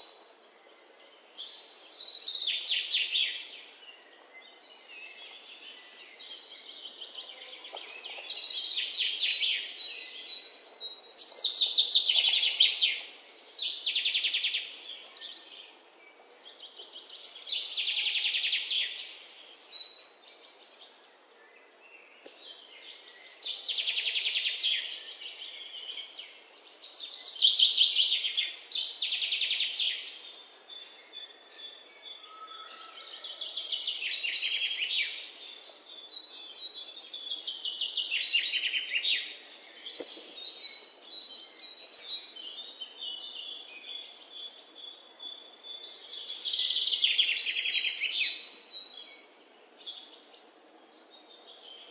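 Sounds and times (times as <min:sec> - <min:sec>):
songbird singing: 0:00.0 - 0:51.9.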